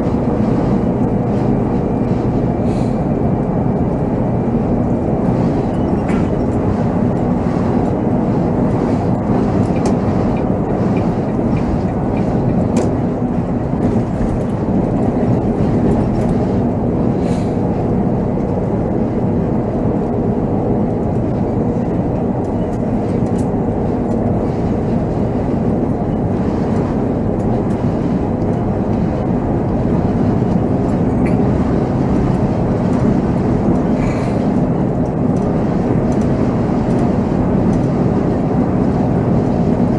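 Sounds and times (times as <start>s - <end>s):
diesel engine rumble: 0.0s - 39.9s.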